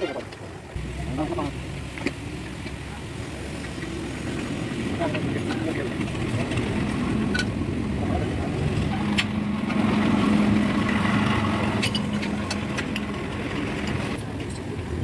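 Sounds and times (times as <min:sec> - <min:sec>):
vehicle engine running: 0:00.7 - 0:15.0.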